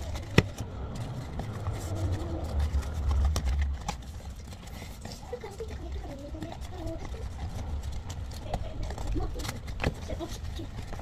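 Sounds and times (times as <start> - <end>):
ribbon and box rustling: 0.0 - 11.0.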